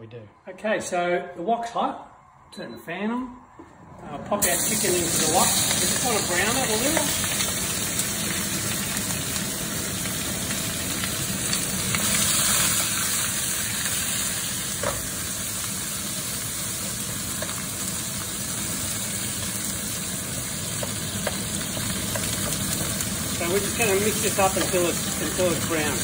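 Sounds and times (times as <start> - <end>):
chicken sizzling in hot oil: 4.4 - 26.0.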